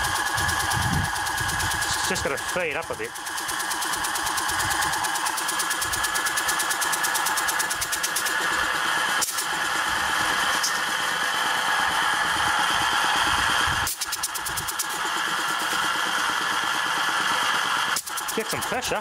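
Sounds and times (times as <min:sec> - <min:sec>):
compressor pumping: 0:00.0 - 0:19.0
electric motor running: 0:00.0 - 0:19.0.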